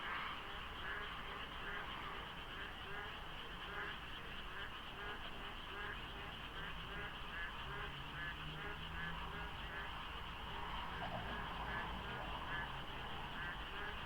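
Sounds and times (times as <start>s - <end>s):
frogs croaking: 0.0s - 14.0s.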